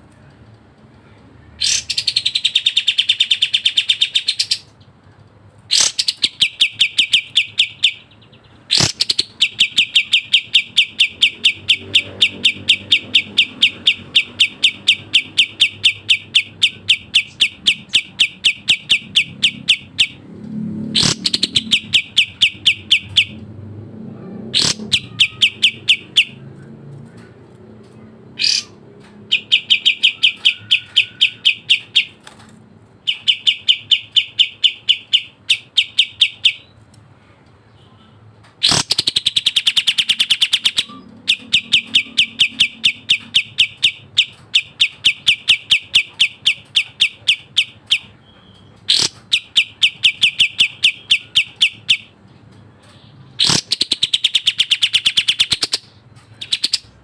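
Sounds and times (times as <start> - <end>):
songbird rapid sharp chirps: 1.6 - 4.8, 5.7 - 20.2, 20.9 - 23.5, 24.6 - 26.6, 28.3 - 32.4, 33.0 - 36.8, 37.7 - 52.2, 52.8 - 57.0.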